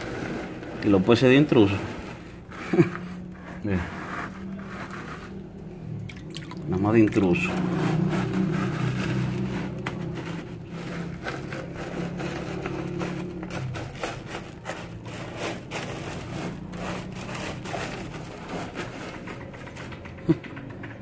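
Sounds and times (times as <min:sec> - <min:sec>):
wet gravel scraping underwater: 0:00.0 - 0:19.8.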